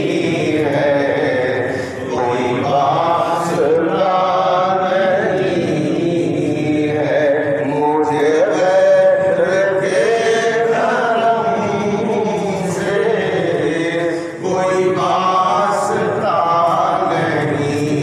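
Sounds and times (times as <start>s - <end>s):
man singing devotional song: 0.0s - 18.0s.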